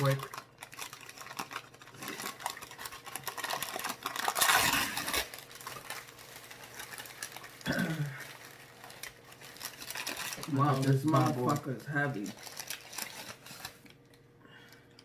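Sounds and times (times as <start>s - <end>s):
paper wrapper crinkling: 0.0s - 14.3s.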